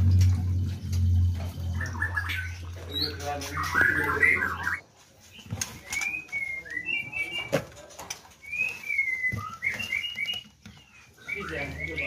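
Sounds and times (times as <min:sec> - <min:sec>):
birds calling in whistled notes: 0:00.1 - 0:07.7, 0:08.3 - 0:12.0.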